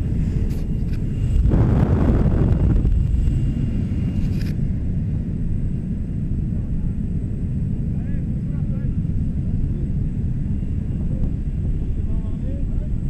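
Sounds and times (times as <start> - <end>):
aircraft engine noise: 0.0 - 13.0
wind rumble: 0.0 - 13.0.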